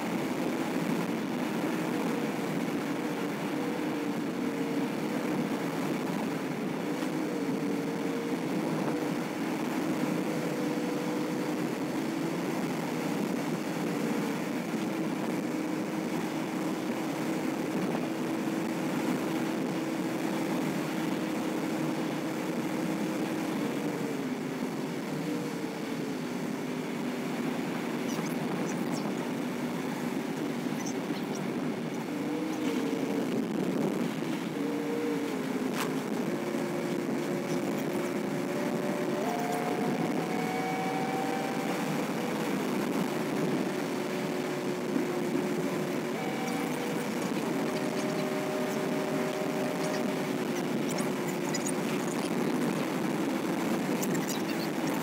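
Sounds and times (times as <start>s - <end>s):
car engine hum and road noise: 0.0s - 55.0s.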